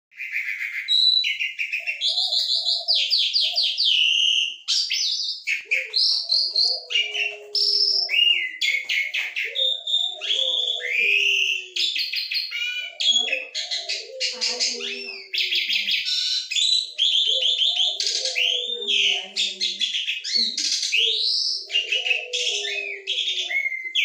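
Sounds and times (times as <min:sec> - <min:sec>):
starling singing: 0:00.1 - 0:24.0.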